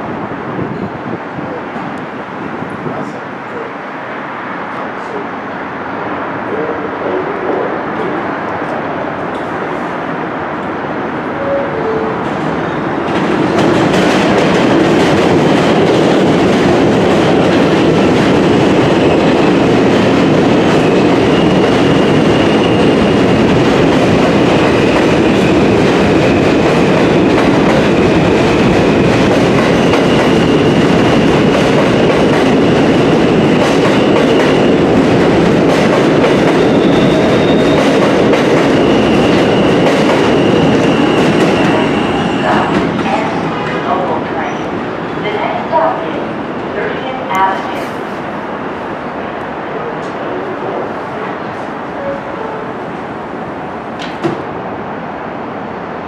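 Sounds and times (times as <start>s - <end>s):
subway train wheels rumbling on rail: 0.0s - 56.0s.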